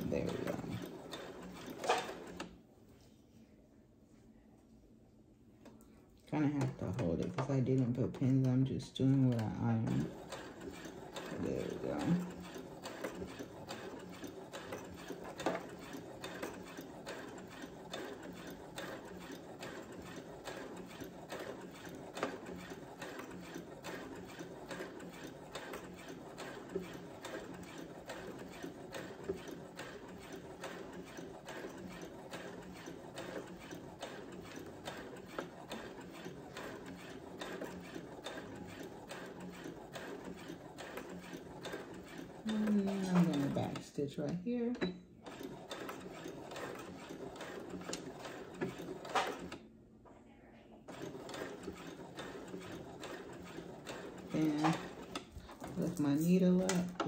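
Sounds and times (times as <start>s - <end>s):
sewing machine stitching: 0.0s - 2.6s, 6.3s - 49.6s, 50.9s - 57.0s.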